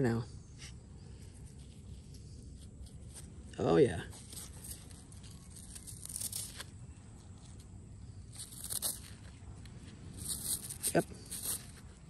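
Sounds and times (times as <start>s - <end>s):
fingers rustling through soil: 0.4s - 12.0s
scratchy scrapes in soil: 0.4s - 12.0s.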